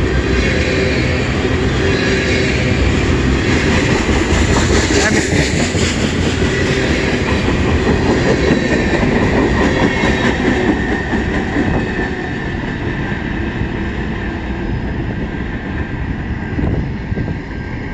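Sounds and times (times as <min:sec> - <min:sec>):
train wheels rumbling and clattering: 0:00.0 - 0:17.9.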